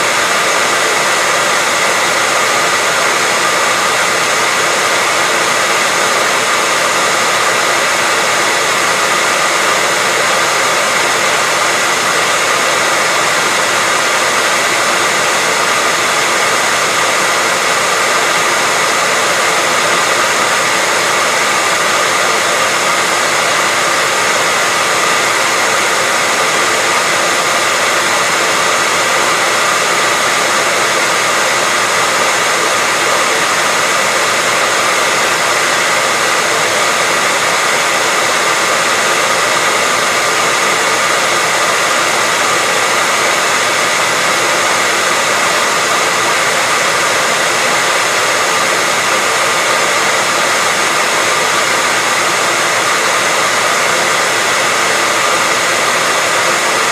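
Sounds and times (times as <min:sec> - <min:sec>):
hair dryer blowing air: 0:00.0 - 0:56.9.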